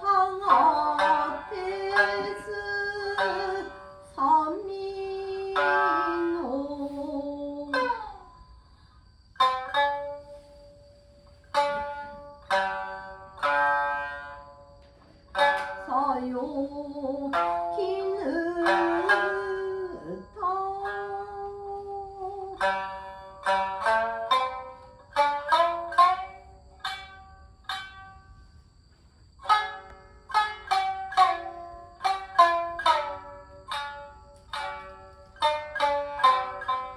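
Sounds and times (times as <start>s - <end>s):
plucked shamisen: 0.0s - 8.5s, 9.3s - 36.9s.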